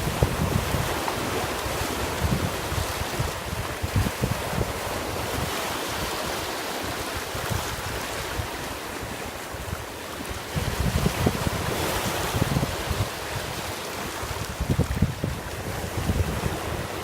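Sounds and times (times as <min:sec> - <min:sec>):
ocean surf washing ashore: 0:00.0 - 0:17.0
wind buffeting microphone: 0:00.0 - 0:17.0.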